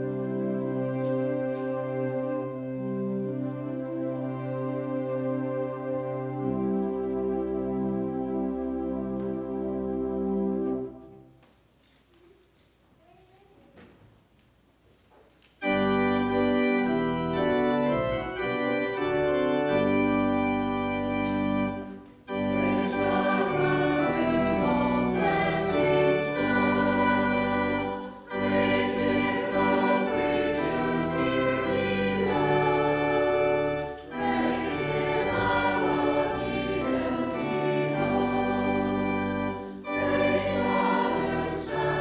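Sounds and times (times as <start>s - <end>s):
church organ playing chords: 0.0s - 11.3s, 15.6s - 42.0s.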